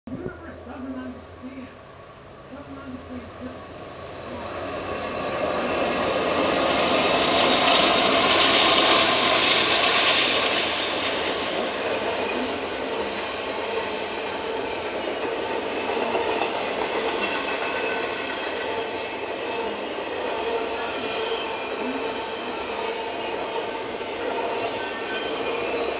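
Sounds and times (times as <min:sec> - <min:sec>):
freight train rumbling past: 0:00.1 - 0:25.9.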